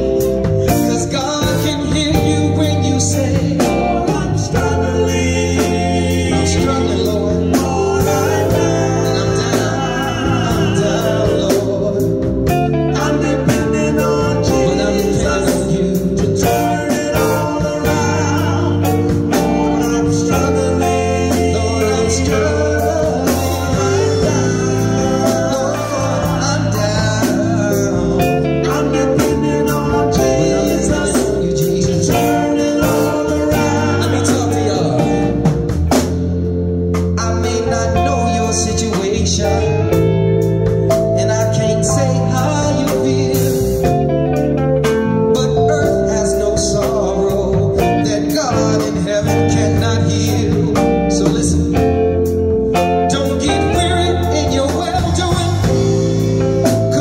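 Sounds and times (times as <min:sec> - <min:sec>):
person singing: 0:00.0 - 0:36.4, 0:37.0 - 0:57.0
live gospel band music: 0:00.0 - 0:57.0.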